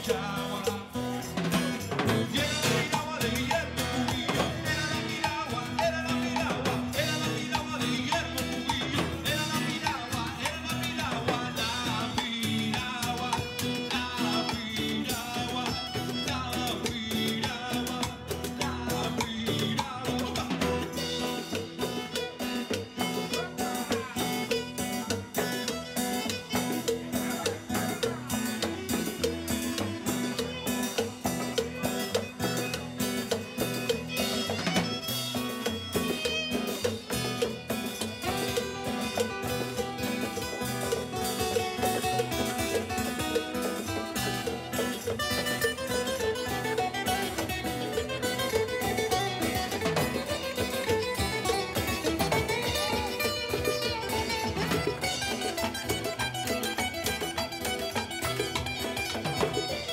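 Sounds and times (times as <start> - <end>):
man singing: 0.0 - 55.2
acoustic guitar: 0.0 - 59.9
drum kit with cymbals: 0.0 - 59.9.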